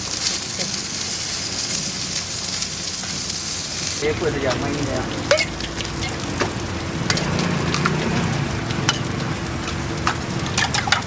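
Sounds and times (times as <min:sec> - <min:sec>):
burger patties sizzling on griddle: 0:00.0 - 0:11.0.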